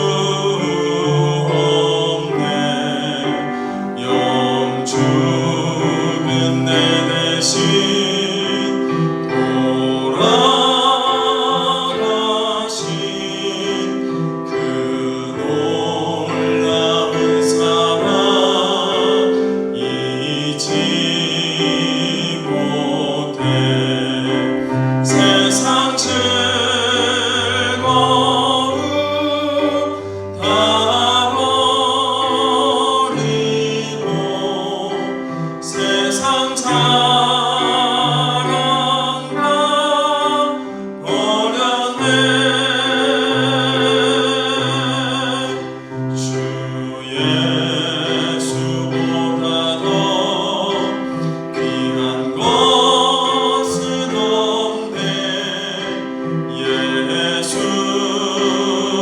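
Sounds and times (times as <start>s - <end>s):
keyboard accompaniment: 0.0s - 59.0s
voices singing a hymn: 0.0s - 59.0s.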